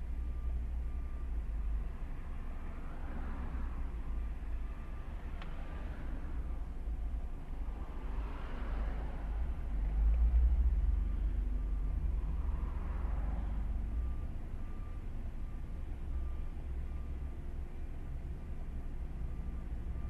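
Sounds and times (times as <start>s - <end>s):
idling engines rumbling: 0.0s - 20.0s
road traffic passing: 0.0s - 20.0s.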